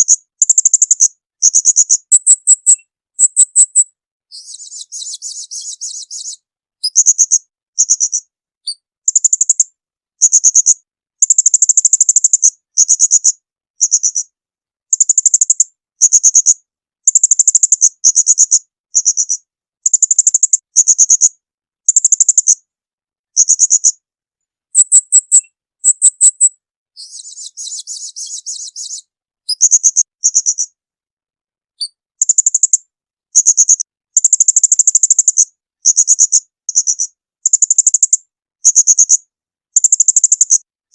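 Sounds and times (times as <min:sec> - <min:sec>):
songbird trills: 0:00.0 - 0:14.3, 0:14.9 - 0:21.3, 0:23.4 - 0:24.0, 0:24.7 - 0:30.8, 0:31.8 - 0:39.2, 0:39.8 - 0:40.6.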